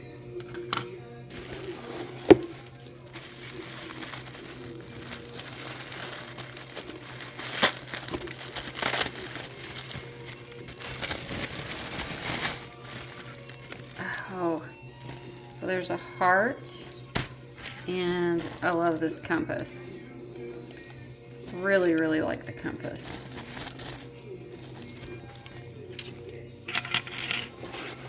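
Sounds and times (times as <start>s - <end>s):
quiet background music: 0.0s - 28.0s
packaging crinkling: 1.3s - 15.7s, 16.9s - 28.0s.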